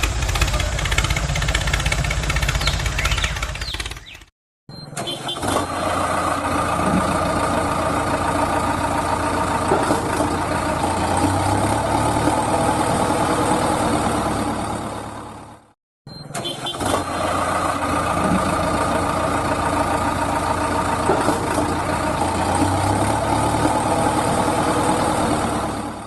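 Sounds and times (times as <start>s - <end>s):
small engine running: 0.0s - 4.3s, 5.1s - 15.6s, 16.6s - 26.0s.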